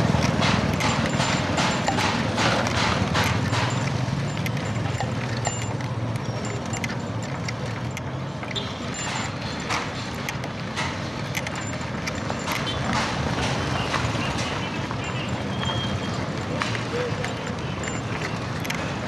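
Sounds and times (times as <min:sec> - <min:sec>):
rattles and knocks: 0:00.0 - 0:19.0
vehicle engine hum: 0:00.0 - 0:19.0.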